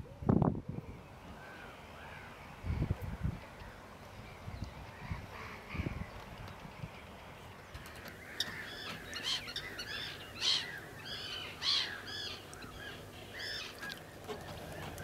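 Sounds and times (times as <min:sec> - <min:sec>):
birds calling: 0:00.9 - 0:15.0.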